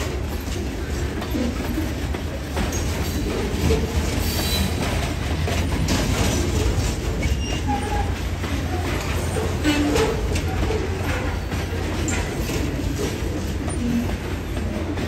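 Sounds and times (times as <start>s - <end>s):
clanks and knocks: 0.0s - 15.0s
freight train wheels rumbling: 0.0s - 15.0s
wheel squeals: 0.0s - 15.0s.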